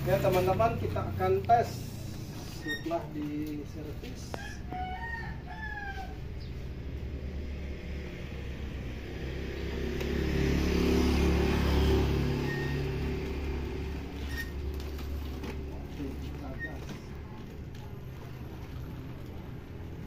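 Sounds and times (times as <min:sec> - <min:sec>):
vehicle engine passing: 0:00.0 - 0:02.7, 0:06.0 - 0:20.0.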